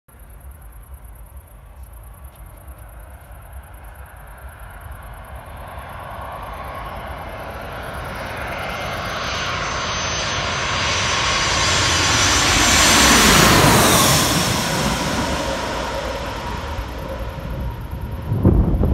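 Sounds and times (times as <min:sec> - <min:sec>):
faint engine whine: 0:00.1 - 0:18.9
jet airliner engines: 0:00.2 - 0:18.9.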